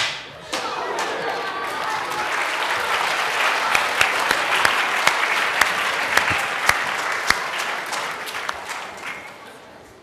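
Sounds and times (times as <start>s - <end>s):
audience applauding: 0.7s - 9.5s.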